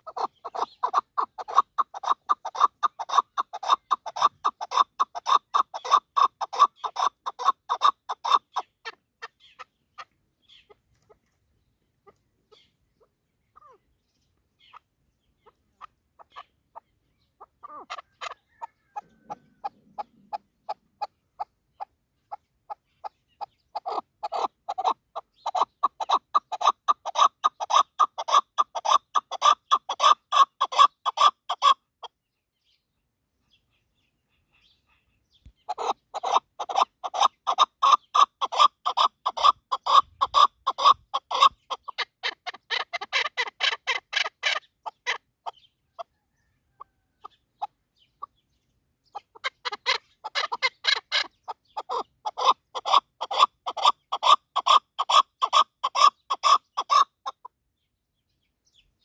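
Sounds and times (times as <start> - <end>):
partridge clucking calls: 0.0 - 32.8, 33.5 - 57.6.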